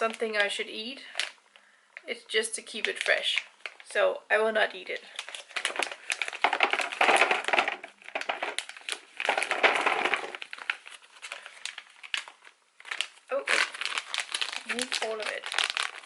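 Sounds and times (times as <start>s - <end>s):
plastic packaging crinkling: 0.0s - 4.1s, 4.8s - 16.0s.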